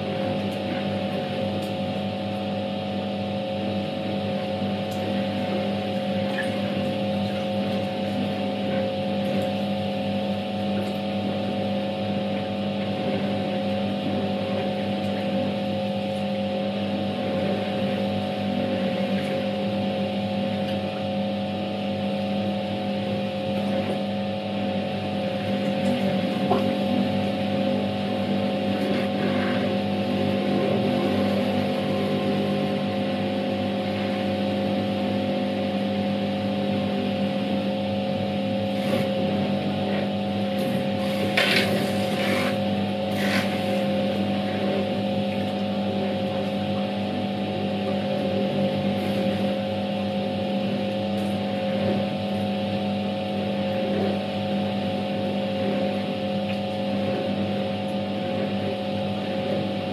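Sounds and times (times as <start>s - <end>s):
washing machine motor humming: 0.0s - 59.9s
water and laundry swirling: 0.0s - 59.9s.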